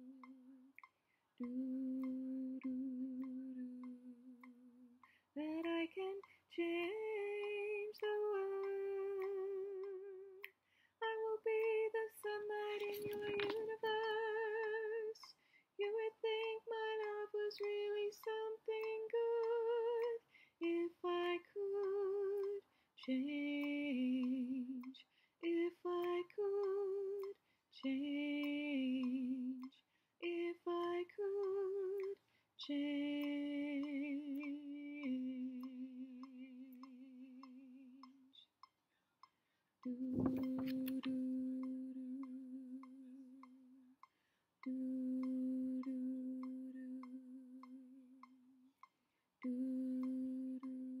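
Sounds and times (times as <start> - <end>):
metronome ticking: 0.0 - 51.0
woman singing with vibrato: 1.4 - 38.0, 39.9 - 43.8, 44.7 - 48.2.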